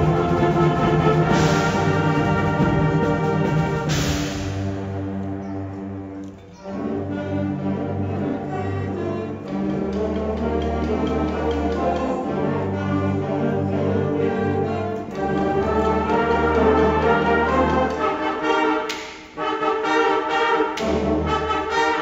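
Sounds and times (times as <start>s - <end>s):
school ensemble playing chords: 0.0s - 22.0s.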